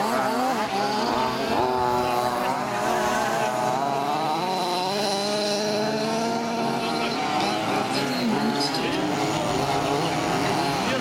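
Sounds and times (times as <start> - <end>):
rc buggy engines buzzing: 0.0 - 11.0.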